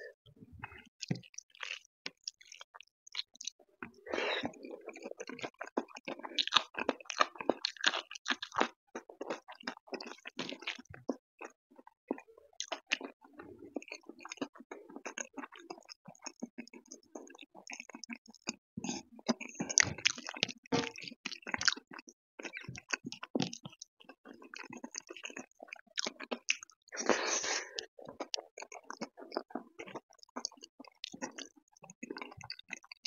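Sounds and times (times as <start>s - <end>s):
chewing and wet mouth sounds: 0.6s - 33.0s.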